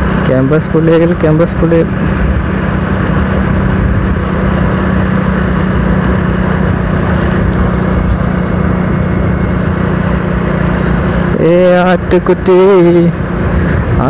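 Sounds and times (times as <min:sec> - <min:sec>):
motorcycle engine humming: 0:00.0 - 0:14.0.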